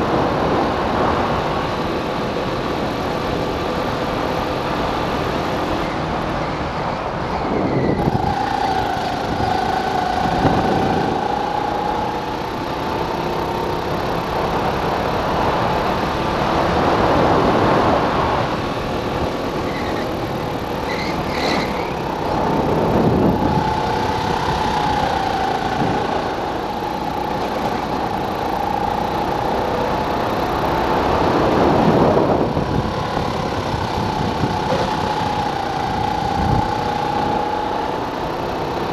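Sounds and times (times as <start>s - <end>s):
go-kart engine at full throttle: 0.0s - 38.9s
wind rush on microphone: 4.1s - 38.9s.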